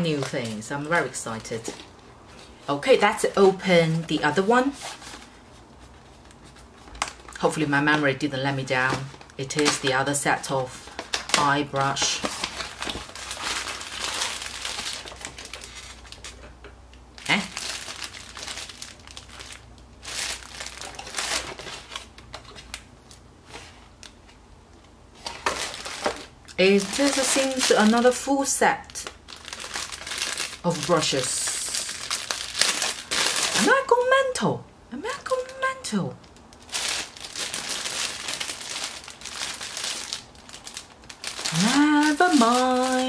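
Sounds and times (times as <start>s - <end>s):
packaging rustling and crinkling: 0.0s - 16.5s, 17.1s - 24.4s, 25.1s - 33.9s, 36.2s - 43.0s.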